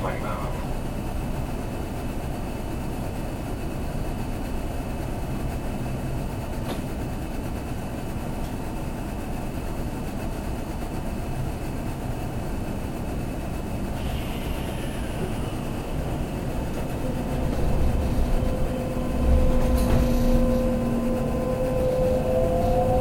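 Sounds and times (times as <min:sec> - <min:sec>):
train car rumble and hum: 0:00.0 - 0:23.0.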